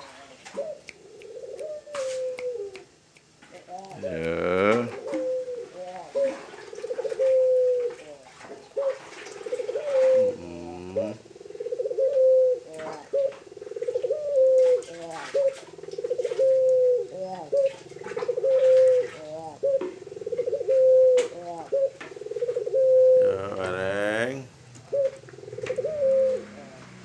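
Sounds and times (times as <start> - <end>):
dove cooing: 0.0 - 2.8, 3.6 - 27.0.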